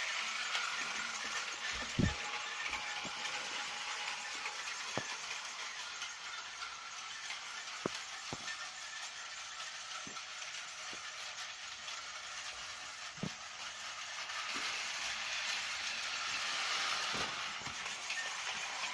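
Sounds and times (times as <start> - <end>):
toy train motor whirring: 0.0 - 18.9.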